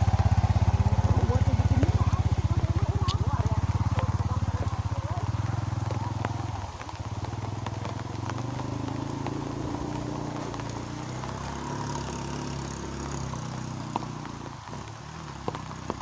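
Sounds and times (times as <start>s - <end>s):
engine throbbing at low revs: 0.0s - 15.0s.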